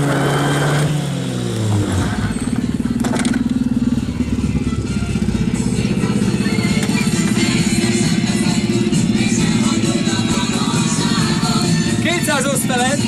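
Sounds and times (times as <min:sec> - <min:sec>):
rally car engine running: 0:00.0 - 0:13.0.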